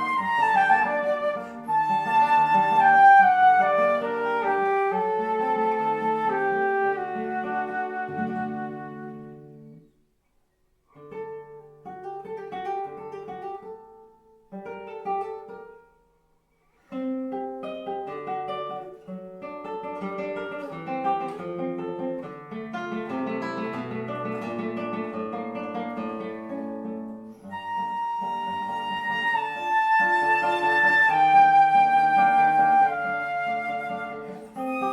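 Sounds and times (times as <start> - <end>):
classical guitar fingerpicking: 0.0 - 34.9.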